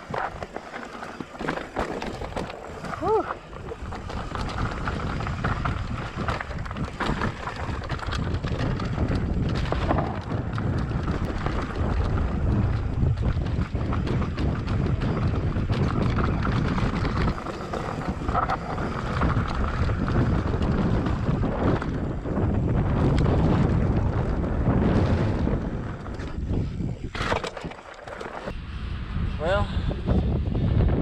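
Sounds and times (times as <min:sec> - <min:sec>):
bike knocking and rattling: 0:00.0 - 0:28.6
bike tyres rumbling: 0:00.0 - 0:31.0
wind rushing over microphone: 0:00.0 - 0:31.0.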